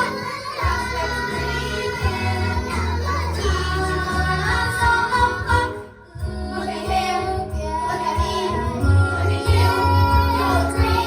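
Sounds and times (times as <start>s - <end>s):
instrumental accompaniment with bass: 0.0s - 11.0s
young voices singing: 0.0s - 11.0s.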